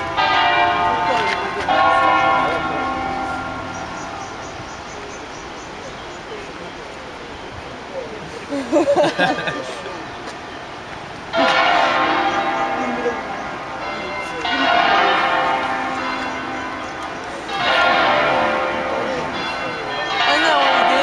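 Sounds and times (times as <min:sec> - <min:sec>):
church bells ringing: 0:00.0 - 0:05.6, 0:09.4 - 0:21.0.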